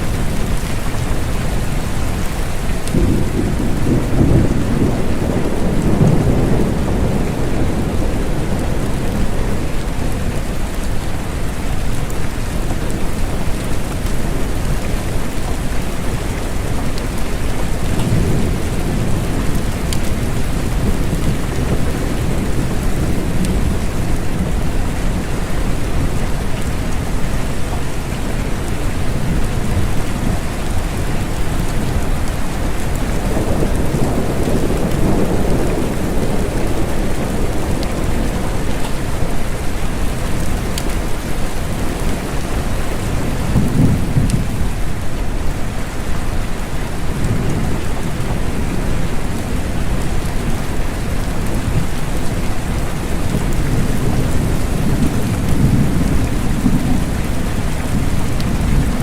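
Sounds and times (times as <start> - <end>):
thunder rumbling: 0.0 - 45.4, 46.9 - 59.0
steady rain: 0.0 - 59.0.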